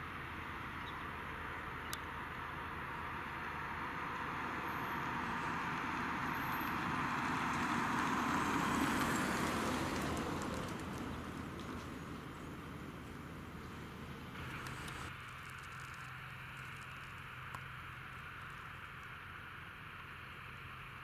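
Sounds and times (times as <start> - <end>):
vehicle engine and tyre noise: 0.0 - 21.0.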